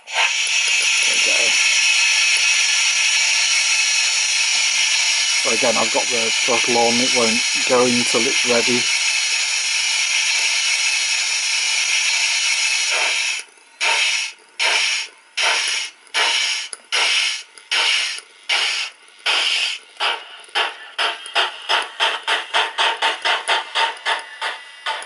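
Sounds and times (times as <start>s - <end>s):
steam locomotive blowdown hiss: 0.0s - 25.0s
steam locomotive exhaust chuffs: 0.0s - 25.0s.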